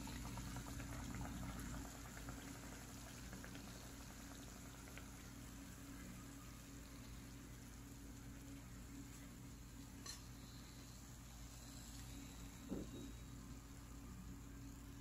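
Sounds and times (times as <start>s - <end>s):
low steady hum: 0.0s - 15.0s
oil bubbling and crackling: 0.0s - 15.0s.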